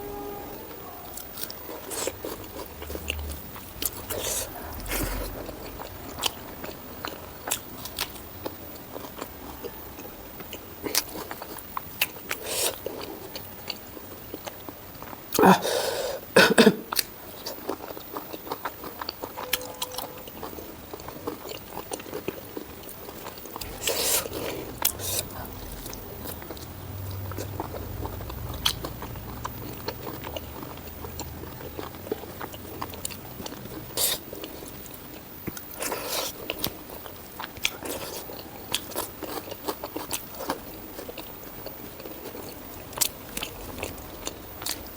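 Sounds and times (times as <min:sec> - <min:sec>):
person chewing crunchy food: 0:01.1 - 0:44.9.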